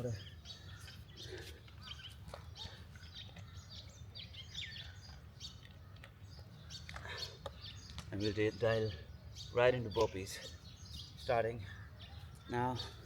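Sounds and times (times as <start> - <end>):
wild birds chirping: 0.0 - 13.0.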